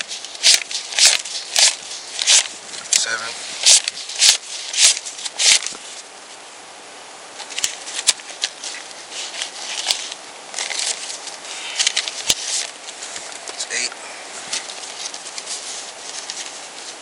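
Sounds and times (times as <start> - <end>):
banknotes rustling while counted: 0.0 - 6.0, 7.4 - 17.0.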